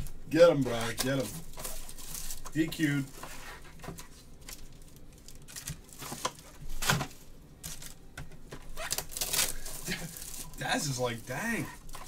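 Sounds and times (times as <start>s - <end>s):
cardboard and foil rustling: 0.0s - 8.0s, 8.7s - 12.0s.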